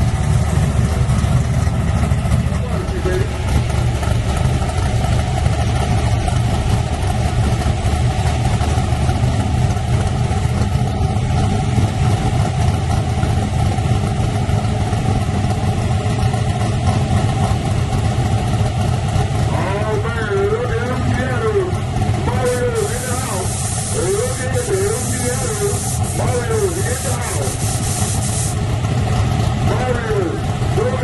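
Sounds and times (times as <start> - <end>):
truck engine idling loudly: 0.0 - 31.0.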